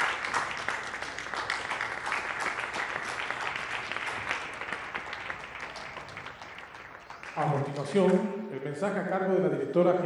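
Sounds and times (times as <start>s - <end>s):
applause: 0.0s - 8.2s.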